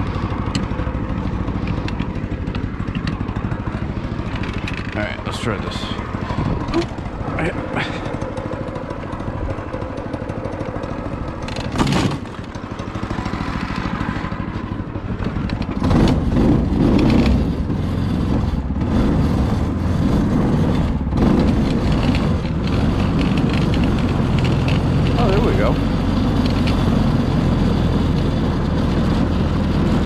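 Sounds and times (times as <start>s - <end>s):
go-kart engine running: 0.0s - 30.0s
sharp clatter: 0.0s - 30.0s.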